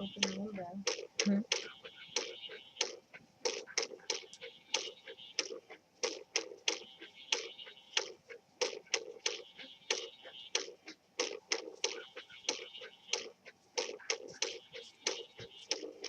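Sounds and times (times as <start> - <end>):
sharp clicky taps: 0.0 - 16.0.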